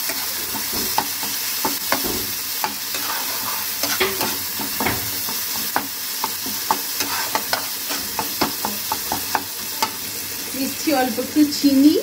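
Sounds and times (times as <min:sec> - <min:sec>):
spatula scraping and tapping pan: 0:00.0 - 0:10.0
food sizzling in frying pan: 0:00.0 - 0:12.0.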